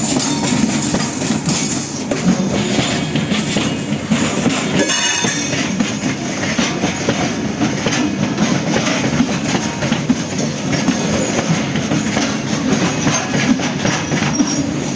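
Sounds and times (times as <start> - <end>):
train rumbling: 0.0 - 14.9
wheels clacking on rails: 0.0 - 14.9.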